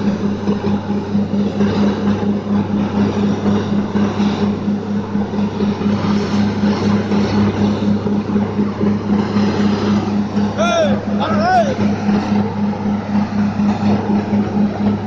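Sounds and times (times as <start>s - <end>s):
drilling rig engine drone: 0.0s - 15.0s.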